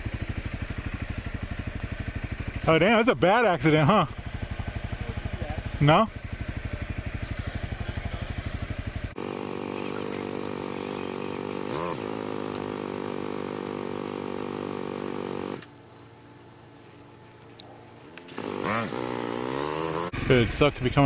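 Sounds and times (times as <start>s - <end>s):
motorcycle engine idling: 0.0s - 20.1s.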